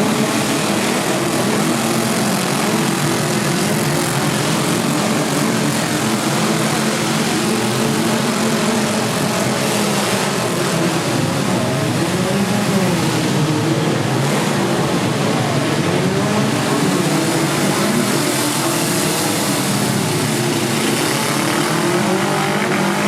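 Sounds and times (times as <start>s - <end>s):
many car engines revving: 0.0s - 23.0s.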